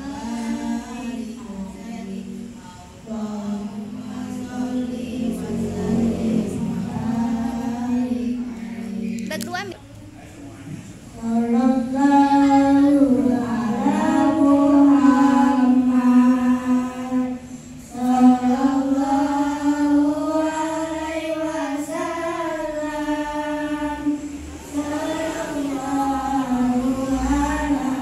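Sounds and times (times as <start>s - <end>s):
boys singing unaccompanied: 0.0s - 9.7s, 10.8s - 28.0s.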